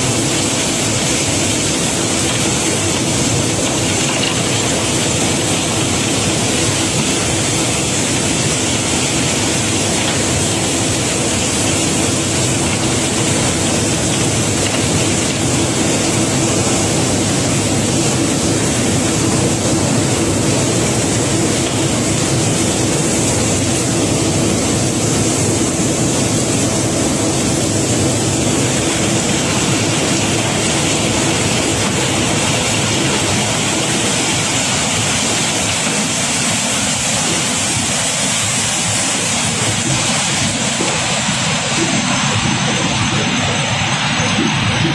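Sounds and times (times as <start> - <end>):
steady machine hum: 0.0 - 44.9.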